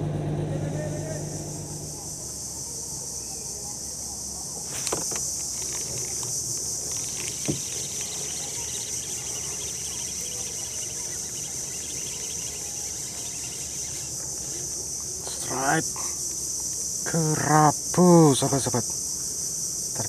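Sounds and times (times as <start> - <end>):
insects shrilling: 0.9 - 20.0.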